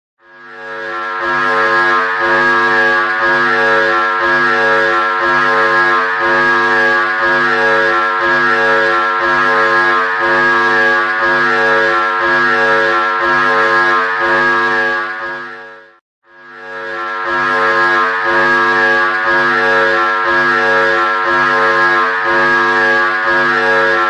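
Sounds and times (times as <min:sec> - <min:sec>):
pulsing alarm tone drone: 0:00.2 - 0:24.0.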